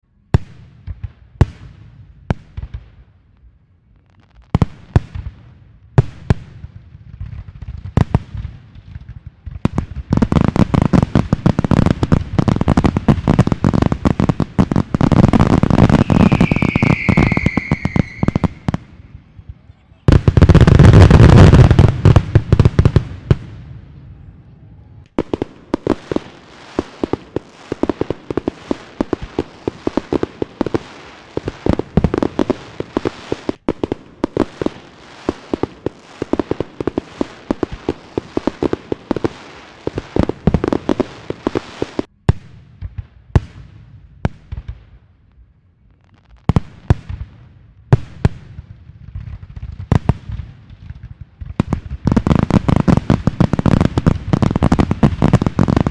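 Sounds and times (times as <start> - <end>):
fireworks crackling: 0.4 - 45.1, 45.9 - 55.9
firework blast: 4.6 - 45.0, 46.5 - 55.9.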